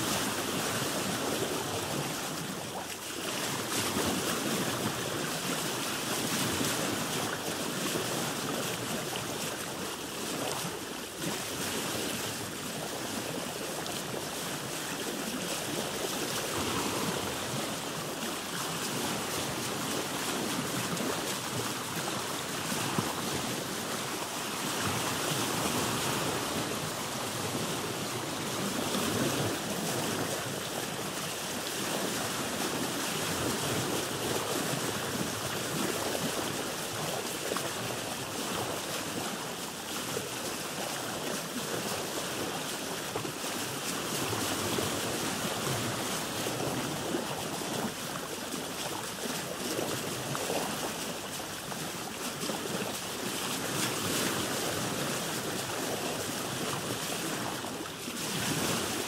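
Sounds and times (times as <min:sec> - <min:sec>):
water sloshing around a boat: 0:00.0 - 0:59.0.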